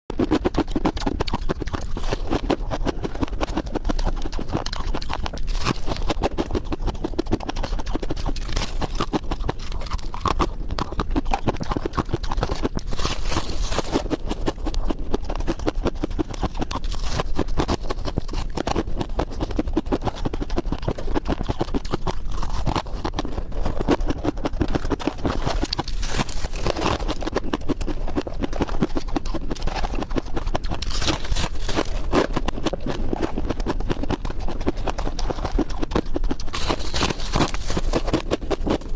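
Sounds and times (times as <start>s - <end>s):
ice being crunched by chewing: 0.1s - 38.9s.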